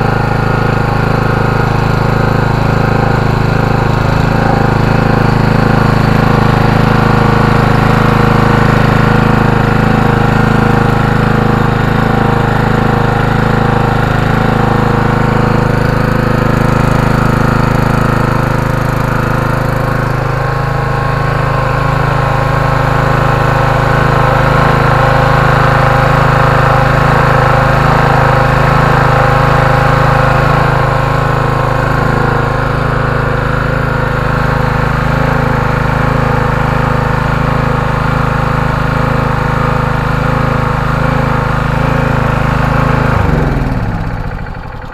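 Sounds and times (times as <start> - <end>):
generator engine running: 0.0 - 44.9.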